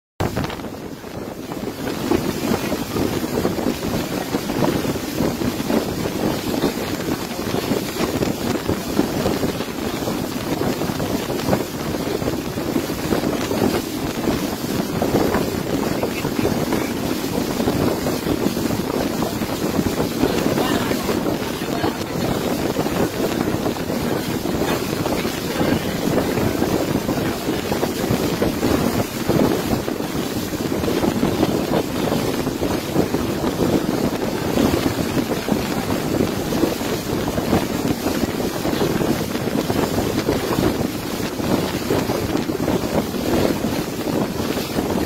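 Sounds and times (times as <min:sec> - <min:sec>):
speedboat engine and water rush: 0:00.2 - 0:45.0
wind buffeting microphone: 0:00.2 - 0:45.0.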